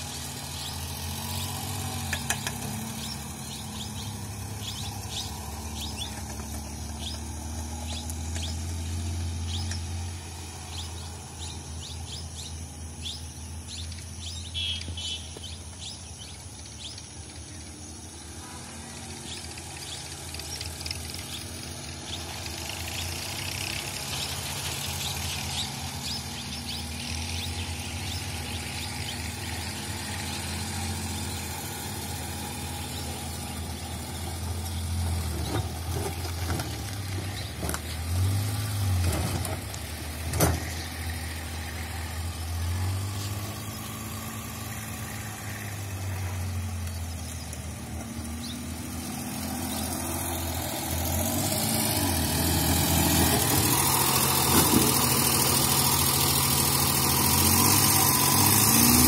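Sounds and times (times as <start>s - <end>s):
car engine running at low speed: 0.0s - 59.0s.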